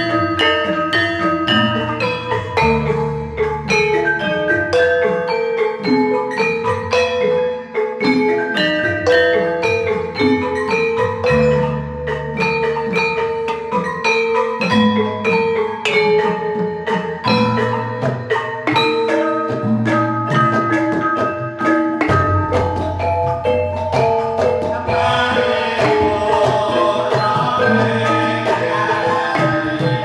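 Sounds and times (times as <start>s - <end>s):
gamelan metallophones ringing: 0.0s - 30.0s.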